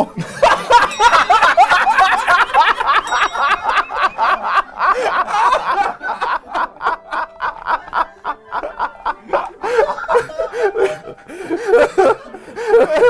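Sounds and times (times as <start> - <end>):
men laughing: 0.0 - 13.0.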